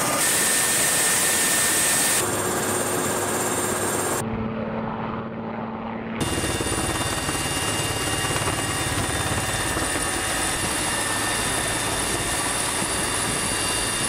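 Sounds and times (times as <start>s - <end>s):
helicopter rotors and turbines roaring: 0.0s - 14.0s.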